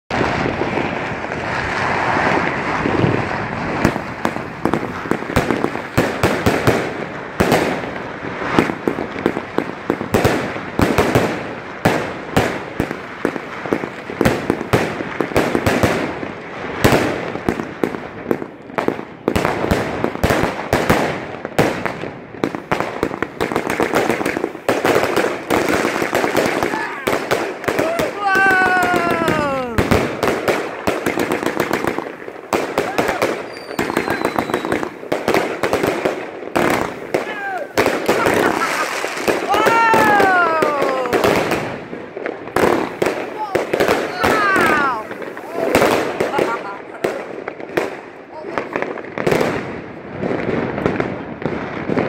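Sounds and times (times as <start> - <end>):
fireworks bursting bangs: 0.1 - 52.0.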